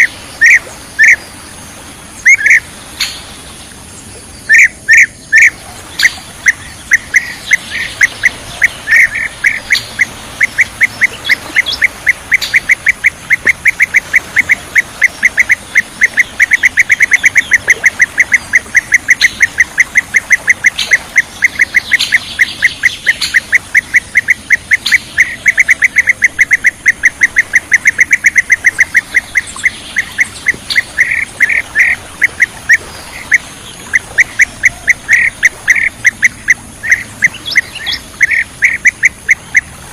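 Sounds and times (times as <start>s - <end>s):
bird chirping calls: 0.0s - 39.7s.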